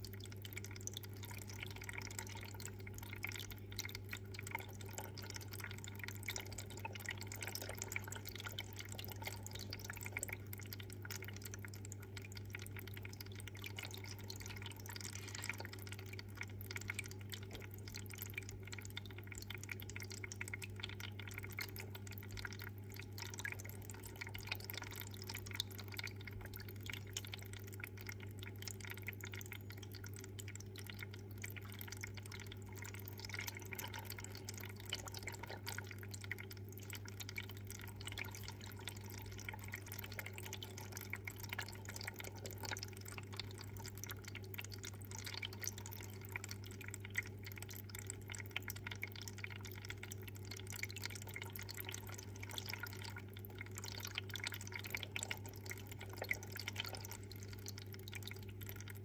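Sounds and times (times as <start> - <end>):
water trickling and dripping: 0.0 - 59.0.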